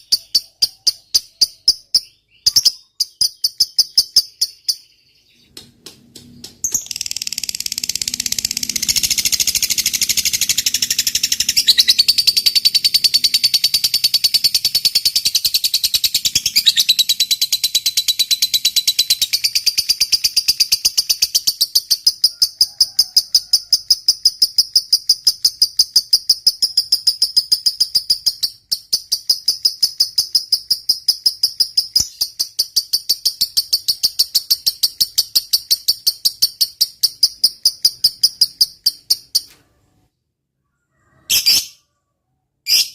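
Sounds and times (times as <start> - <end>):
lovebird chattering: 0.0 - 4.9, 6.7 - 39.5.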